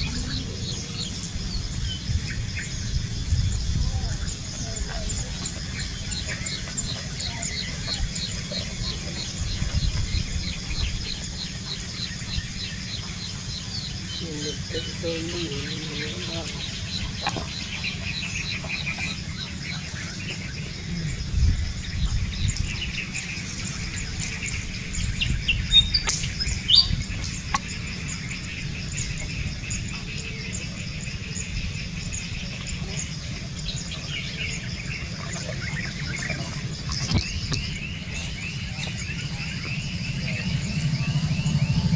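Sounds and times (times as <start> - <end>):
birds chirping: 0.0 - 41.9
steady low rumble: 0.0 - 41.9
sweeping bird calls: 0.0 - 41.9.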